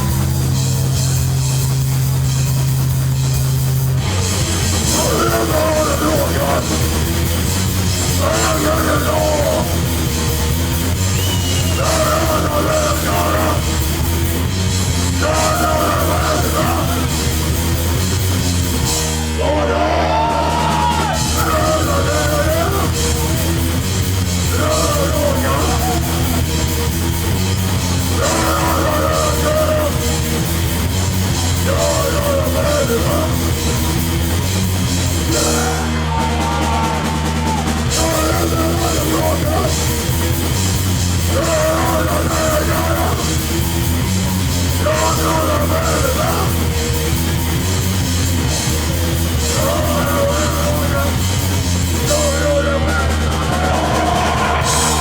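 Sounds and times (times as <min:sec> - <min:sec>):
distorted electric guitar phrase: 0:00.0 - 0:19.5, 0:21.2 - 0:55.0
punk band playing loud: 0:00.0 - 0:55.0.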